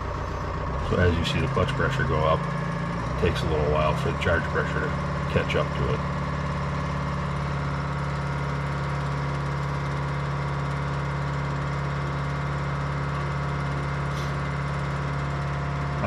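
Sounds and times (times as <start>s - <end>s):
loader engine running: 0.0s - 16.0s.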